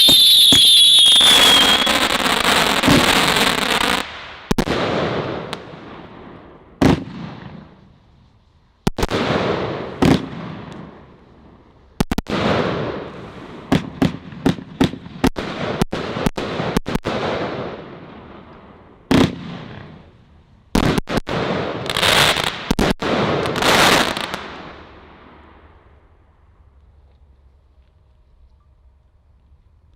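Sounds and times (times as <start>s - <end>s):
firework reports with crackle: 0.0s - 28.4s.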